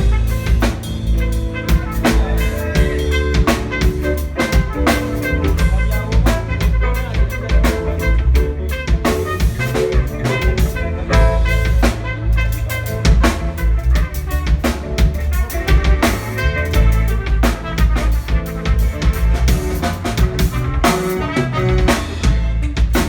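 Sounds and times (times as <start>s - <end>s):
deep bass line: 0.0s - 23.0s
drum kit kick and snare: 0.0s - 23.0s
live band playing: 0.0s - 23.0s.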